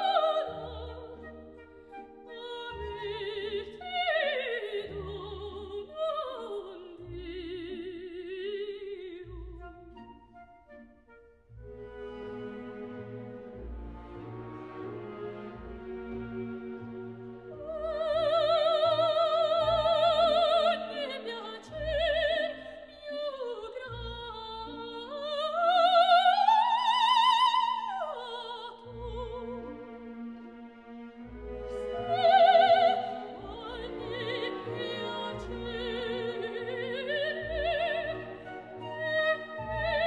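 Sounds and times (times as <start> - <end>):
soprano singing opera: 0.0 - 10.0, 15.1 - 30.0, 31.4 - 40.0
orchestral accompaniment: 0.0 - 27.6, 28.3 - 40.0.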